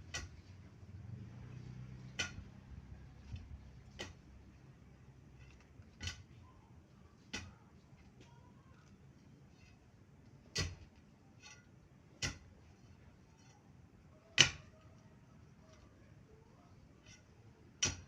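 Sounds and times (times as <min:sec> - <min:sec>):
faint low hum: 0:00.0 - 0:17.8.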